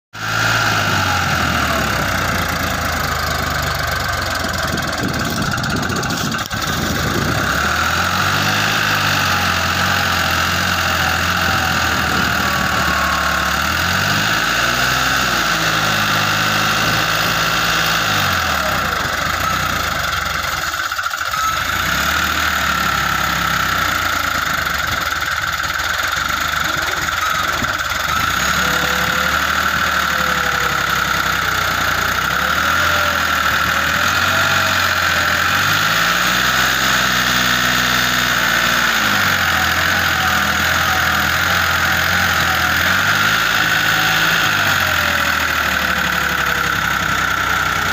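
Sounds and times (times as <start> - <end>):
tractor diesel engine under load: 0.1 - 47.9.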